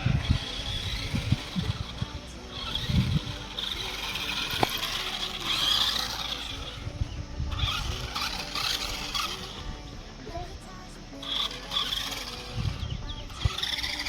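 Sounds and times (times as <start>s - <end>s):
toy car electric motor whirring: 0.0s - 14.0s
tyres skidding: 0.0s - 14.0s.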